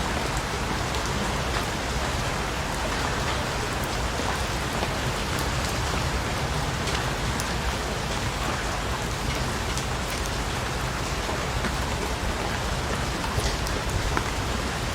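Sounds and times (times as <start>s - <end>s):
raindrops ticking: 0.0s - 14.9s
steady rain hiss: 0.0s - 14.9s.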